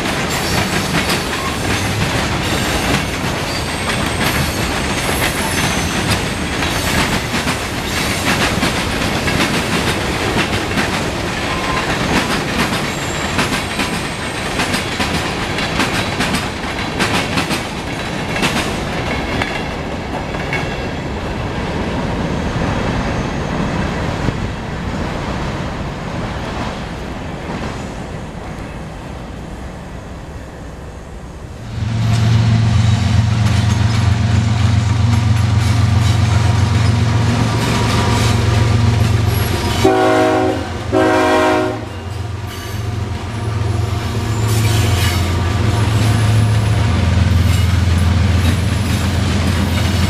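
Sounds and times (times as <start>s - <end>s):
train wheels clacking on rails: 0.0s - 24.4s, 31.8s - 50.0s
diesel locomotives rumbling: 0.0s - 50.0s.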